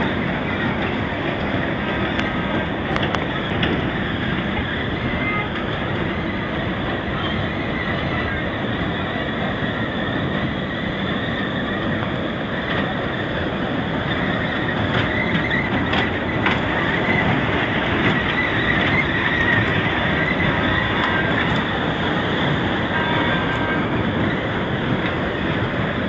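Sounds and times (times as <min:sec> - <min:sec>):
ride cars rolling rumble: 0:00.0 - 0:26.0.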